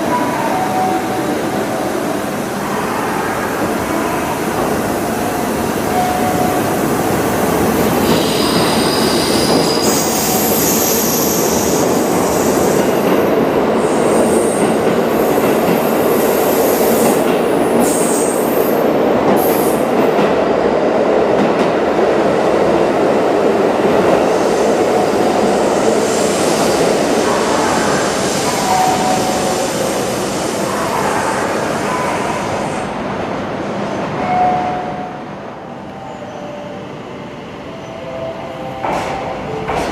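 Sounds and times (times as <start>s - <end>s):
train wheels rumbling on rail: 0.0s - 35.3s, 38.7s - 39.9s.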